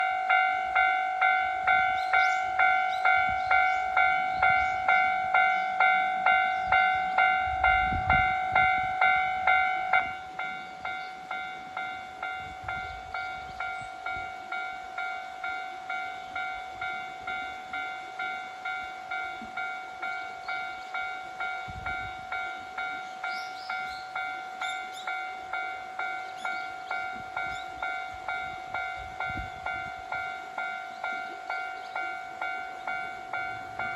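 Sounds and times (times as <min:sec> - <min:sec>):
railroad crossing alarm ringing: 0:00.0 - 0:33.9.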